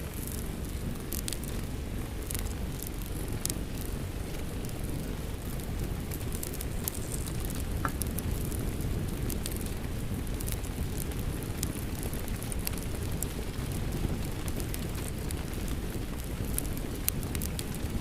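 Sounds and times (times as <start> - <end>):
steady rain: 0.0 - 18.0
wood fire crackling: 0.0 - 18.0.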